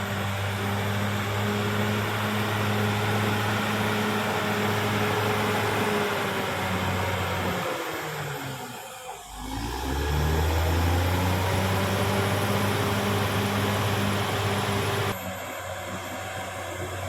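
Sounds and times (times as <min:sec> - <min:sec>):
bulldozer diesel engine revving: 0:00.0 - 0:17.0.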